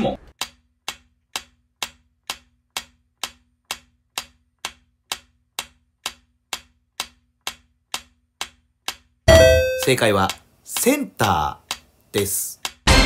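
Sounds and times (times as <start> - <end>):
clock-like timer ticking: 0.3 - 13.0.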